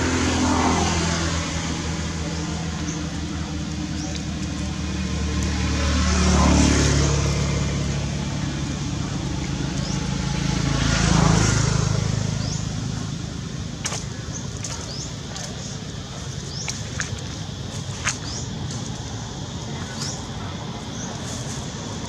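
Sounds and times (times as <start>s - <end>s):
motor vehicles driving past: 0.0s - 22.0s.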